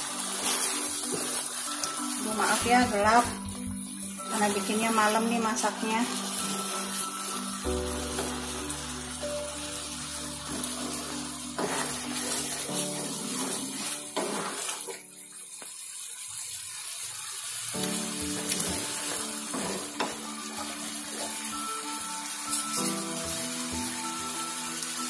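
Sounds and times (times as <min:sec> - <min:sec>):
background music with held chords: 0:00.0 - 0:15.2, 0:17.8 - 0:25.0
chutney simmering in a frying pan: 0:00.0 - 0:25.0.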